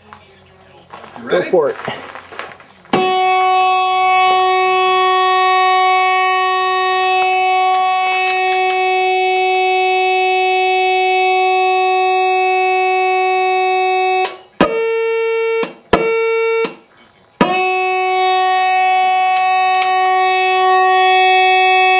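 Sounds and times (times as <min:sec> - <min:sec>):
fog horn blast: 0:02.9 - 0:16.8, 0:17.4 - 0:21.9.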